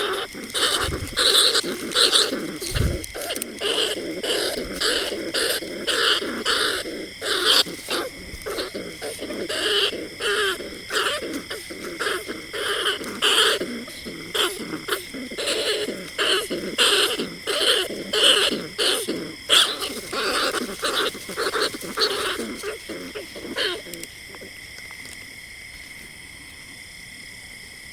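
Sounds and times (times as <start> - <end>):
rat calls: 0.0 - 25.2
steady hiss: 0.0 - 27.9.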